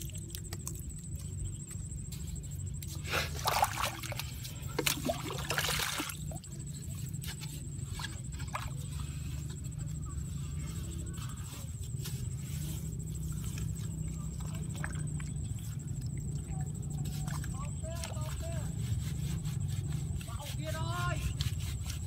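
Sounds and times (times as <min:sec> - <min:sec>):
steady low rumble: 0:00.0 - 0:20.4.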